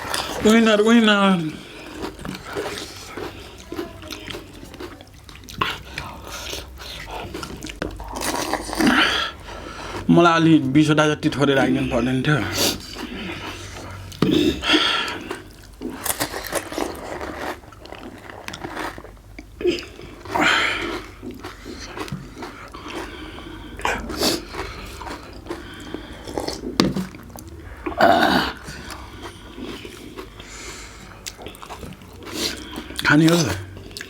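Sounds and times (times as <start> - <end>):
crunchy food chewing: 1.4 - 10.1, 12.5 - 34.0.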